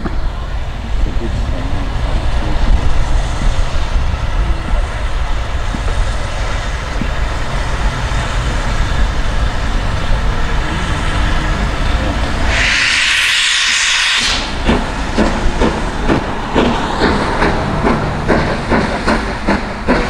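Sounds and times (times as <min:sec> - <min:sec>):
steam locomotive rumbling: 0:00.0 - 0:20.0.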